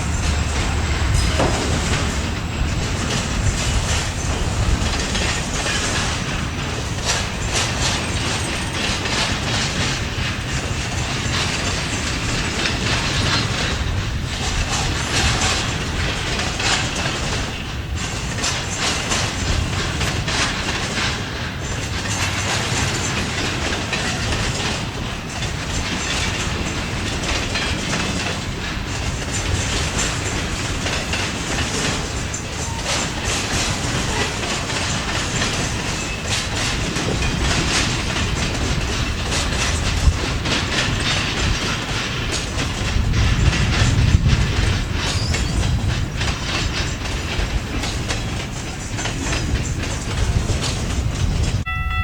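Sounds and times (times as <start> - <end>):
freight train rumble: 0.0 - 52.0
train wheels clicking on rail joints: 0.0 - 52.0.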